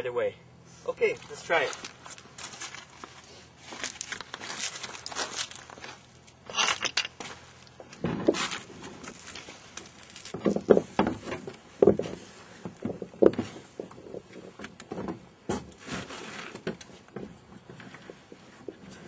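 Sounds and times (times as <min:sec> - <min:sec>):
hollow footsteps in a canoe: 0:01.1 - 0:19.0.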